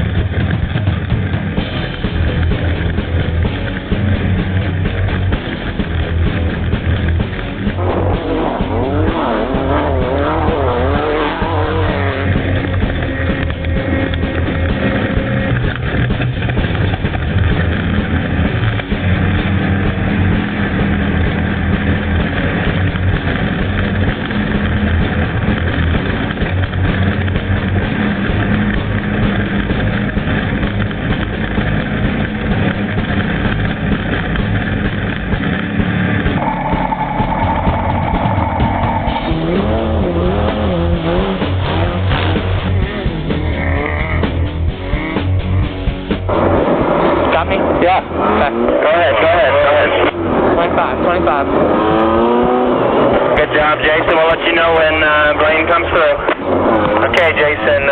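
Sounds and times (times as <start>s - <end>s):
race vehicle engine running hard: 0.0s - 57.9s
road and drivetrain noise: 0.0s - 57.9s.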